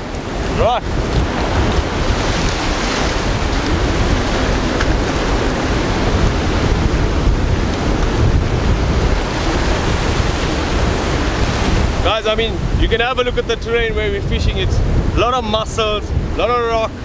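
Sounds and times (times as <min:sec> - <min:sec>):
surf breaking on rocks: 0:00.0 - 0:16.9
wind buffeting microphone: 0:00.0 - 0:17.0.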